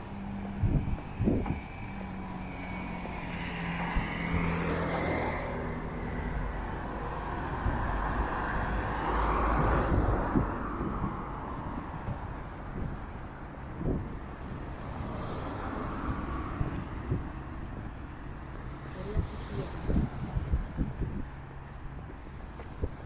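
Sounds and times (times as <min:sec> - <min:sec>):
cars passing by: 0:00.0 - 0:23.0.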